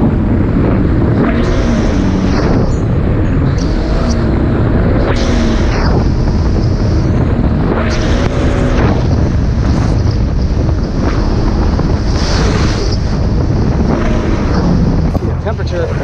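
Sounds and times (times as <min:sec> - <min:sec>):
jet ski engine running: 0:00.0 - 0:16.0
wind buffeting microphone: 0:00.0 - 0:16.0.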